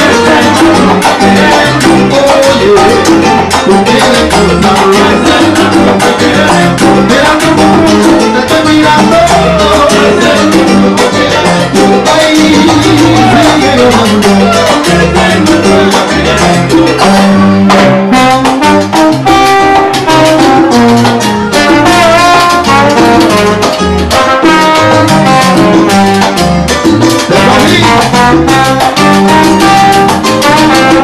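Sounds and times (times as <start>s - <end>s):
salsa band playing: 0.0s - 31.0s
timbales and conga drums: 0.0s - 31.0s
trombone lines: 0.0s - 31.0s.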